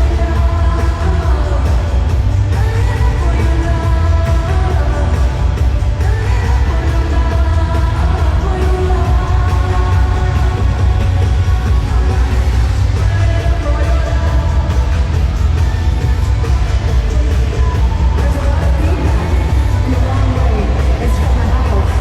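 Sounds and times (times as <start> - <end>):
loud live band music: 0.0 - 22.0.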